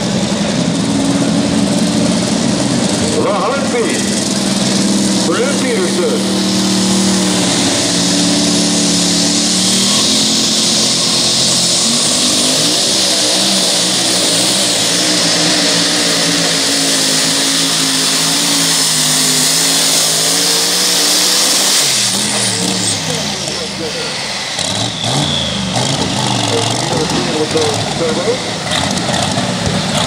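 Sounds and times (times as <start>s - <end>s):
hissing whine: 0.0s - 29.9s
truck engine at full throttle: 0.0s - 30.0s.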